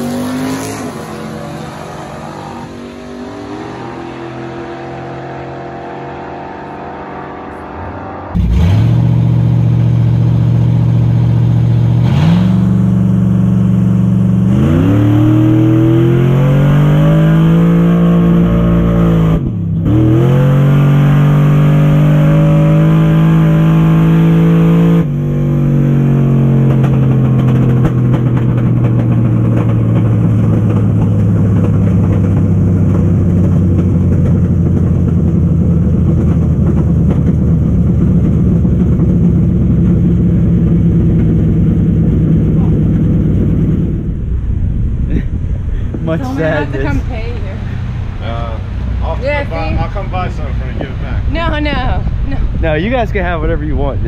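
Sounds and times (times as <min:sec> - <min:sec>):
quieter engine sound: 0:00.0 - 0:54.0
race car engine at full throttle: 0:00.0 - 0:54.0.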